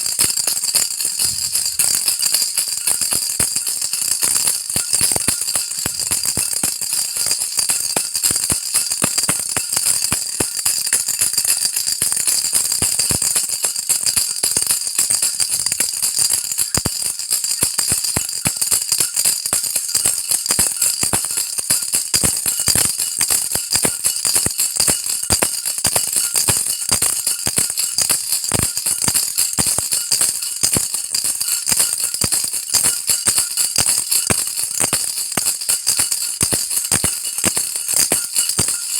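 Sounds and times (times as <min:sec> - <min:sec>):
baby rattle shaking: 0:00.0 - 0:38.9.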